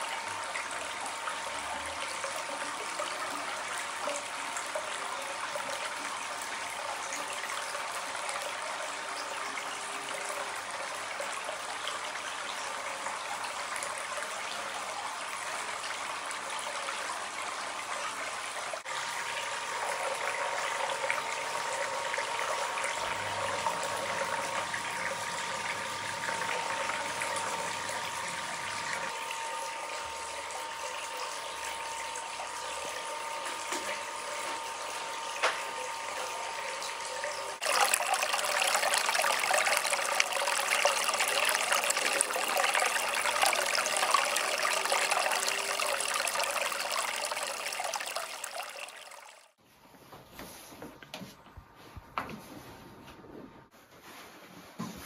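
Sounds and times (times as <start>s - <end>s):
water running and trickling: 0.0s - 49.6s.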